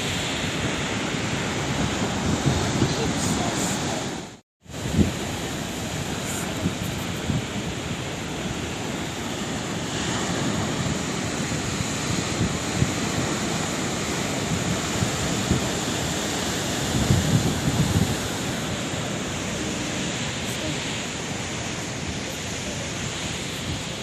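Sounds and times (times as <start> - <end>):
sea waves breaking: 0.0 - 24.0
wind buffeting microphone: 0.0 - 24.0.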